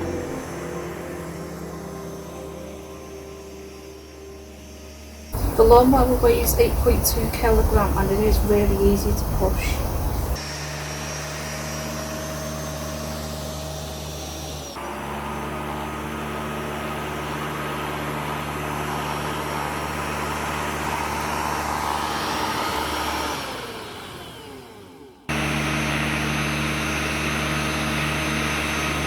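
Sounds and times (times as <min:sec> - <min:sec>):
electric lawnmower running: 0:00.0 - 0:29.0.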